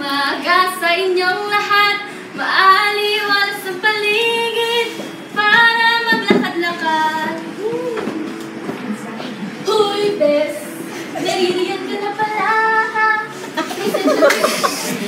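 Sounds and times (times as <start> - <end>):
woman singing: 0.0 - 14.3.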